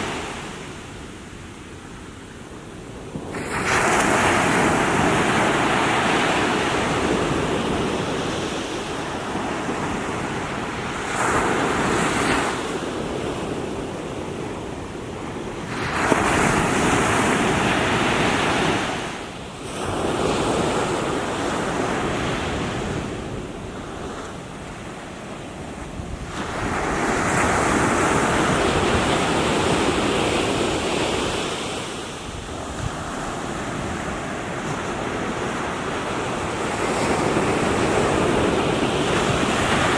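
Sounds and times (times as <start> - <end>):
small waves breaking on shore: 0.0 - 39.9
wind on microphone: 2.6 - 39.9.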